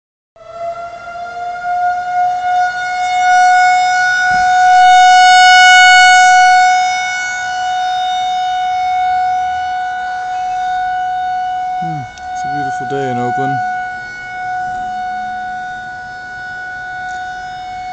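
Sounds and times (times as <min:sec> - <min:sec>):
air raid siren steady tone: 0:00.4 - 0:17.9.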